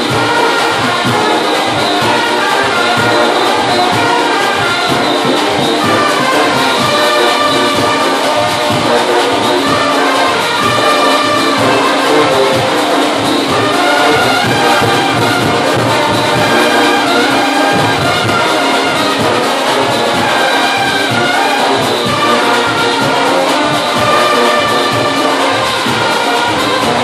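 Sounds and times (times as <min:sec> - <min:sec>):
brass horns playing melody: 0:00.0 - 0:27.0
drums beating: 0:00.0 - 0:27.0.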